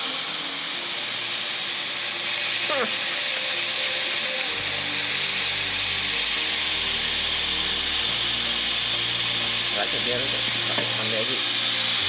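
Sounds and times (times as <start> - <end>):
background music with low notes: 0.0 - 12.0
hiss of gas through tubing: 0.0 - 12.0.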